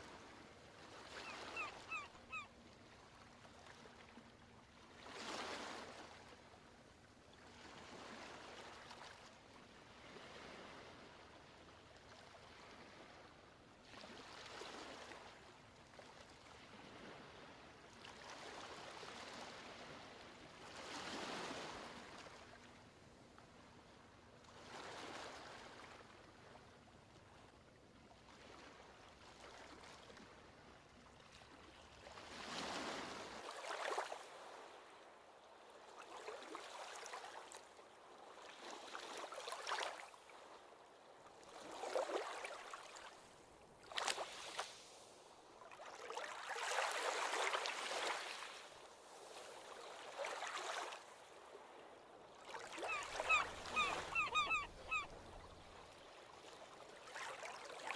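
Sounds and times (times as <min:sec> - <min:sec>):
small ocean waves washing in: 0:00.0 - 0:06.8, 0:07.4 - 0:22.9, 0:24.5 - 0:26.7, 0:28.2 - 0:57.9.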